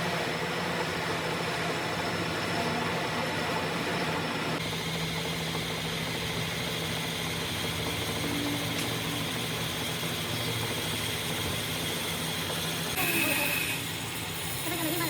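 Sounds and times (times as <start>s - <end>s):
machine motor humming: 0.0s - 14.7s.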